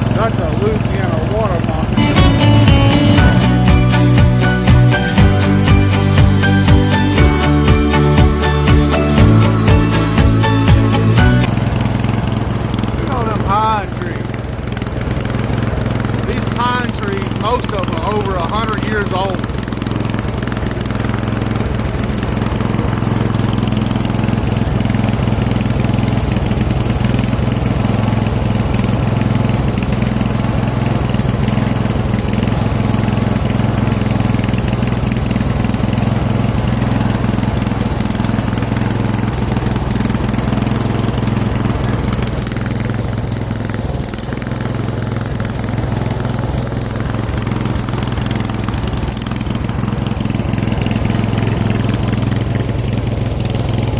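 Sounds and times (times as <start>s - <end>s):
riding lawn mower engine running: 0.0s - 53.9s.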